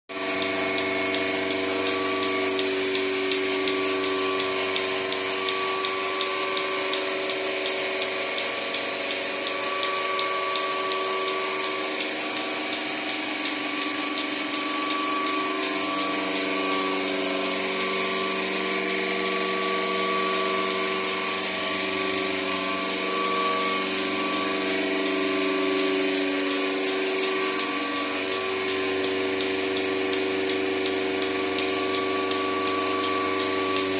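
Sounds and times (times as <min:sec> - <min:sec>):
vacuum pump humming: 0:00.1 - 0:33.9.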